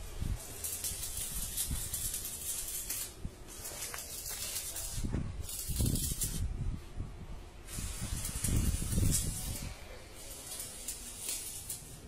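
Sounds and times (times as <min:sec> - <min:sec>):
arc welding crackling hiss: 0:00.0 - 0:06.8, 0:07.6 - 0:12.0.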